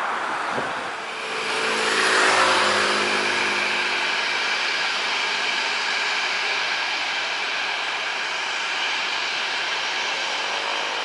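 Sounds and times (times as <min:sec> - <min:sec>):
jet engines roaring and whining: 0:00.0 - 0:11.0.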